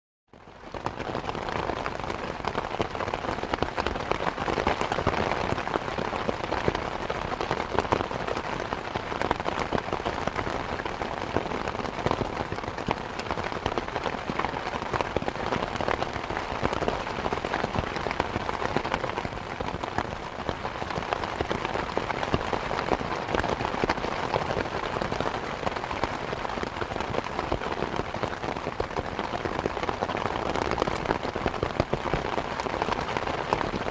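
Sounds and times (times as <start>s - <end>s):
rain pattering on surfaces: 0.3s - 33.9s.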